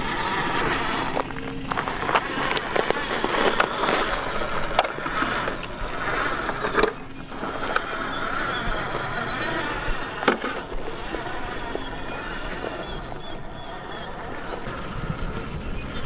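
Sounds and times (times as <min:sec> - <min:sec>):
plants rustling against toy truck: 0:00.0 - 0:14.8.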